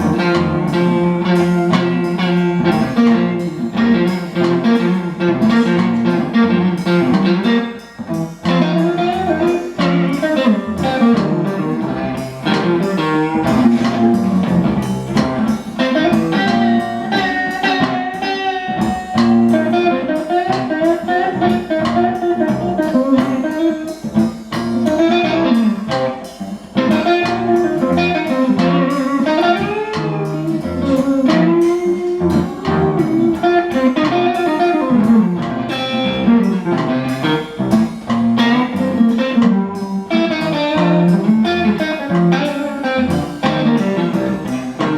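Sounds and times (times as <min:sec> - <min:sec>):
bending guitar notes: 0:00.0 - 0:44.9
blues band playing: 0:00.0 - 0:44.9.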